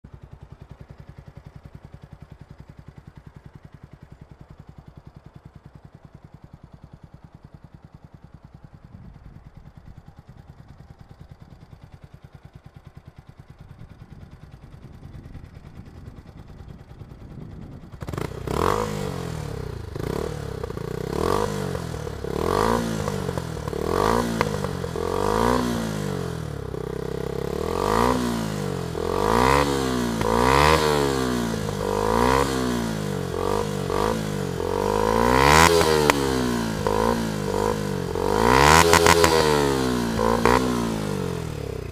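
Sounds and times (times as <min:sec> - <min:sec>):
motorcycle engine idling: 0:00.0 - 0:41.9
motorcycle engine revving: 0:00.1 - 0:41.9.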